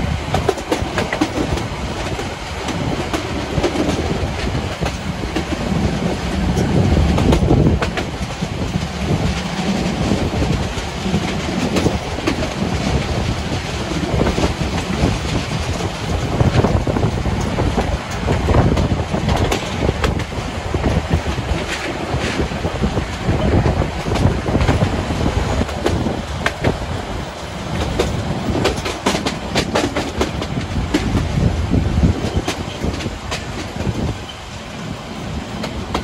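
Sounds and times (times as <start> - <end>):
train rumbling on track: 0.0 - 36.0
wheels clicking over rail joints: 0.0 - 36.0.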